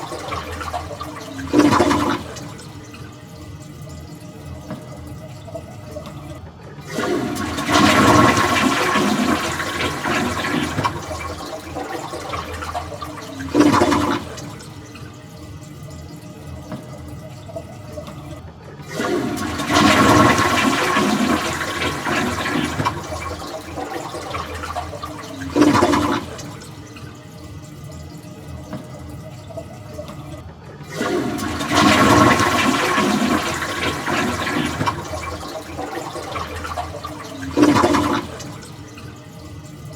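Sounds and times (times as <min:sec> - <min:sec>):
toilet flushing: 0:00.0 - 0:39.9
water running into tank: 0:00.0 - 0:39.9.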